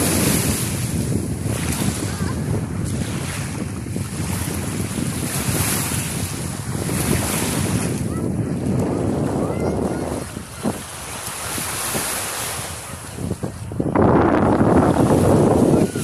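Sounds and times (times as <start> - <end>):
small waves washing on sand: 0.0 - 16.0
wind buffeting microphone: 0.0 - 16.0.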